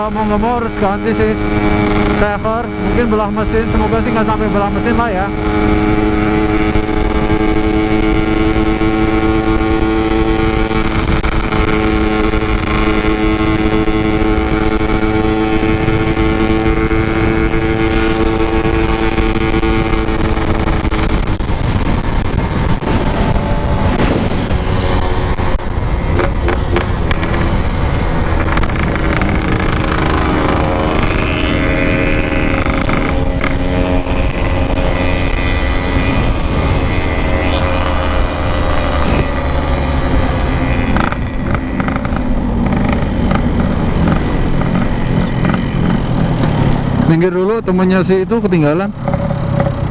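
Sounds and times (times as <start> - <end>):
motorcycle engine running: 0.0 - 49.9
wind and road rush: 0.0 - 49.9.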